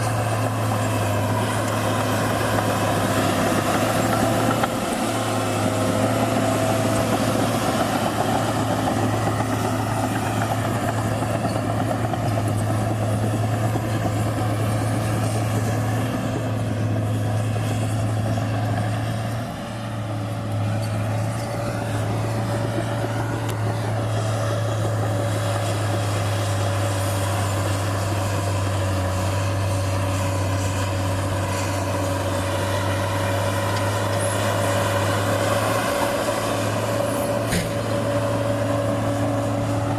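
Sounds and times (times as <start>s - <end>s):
dozer diesel engine droning: 0.0s - 39.9s.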